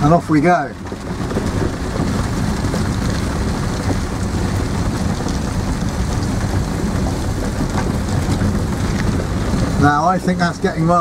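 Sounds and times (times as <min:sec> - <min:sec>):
low road rumble: 0:00.0 - 0:11.0
heavy rain hitting vehicle shell: 0:00.8 - 0:10.8.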